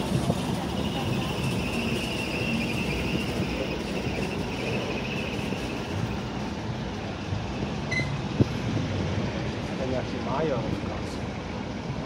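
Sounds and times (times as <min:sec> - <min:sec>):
jeep engines running slowly: 0:00.0 - 0:12.0.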